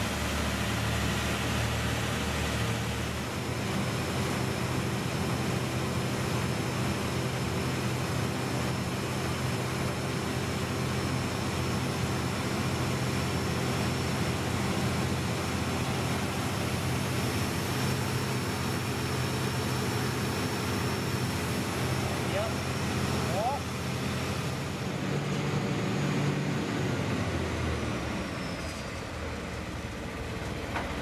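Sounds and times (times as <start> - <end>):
engine-driven pump droning: 0.0 - 31.0.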